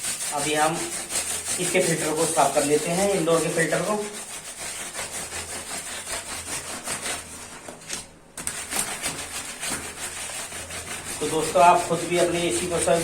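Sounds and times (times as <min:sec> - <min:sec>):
brush scrubbing a filter: 0:00.0 - 0:13.0.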